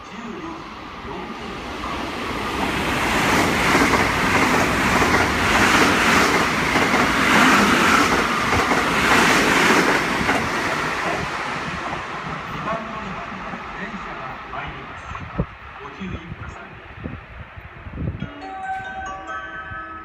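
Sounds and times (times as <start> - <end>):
train passing at high speed: 0.0 - 20.0.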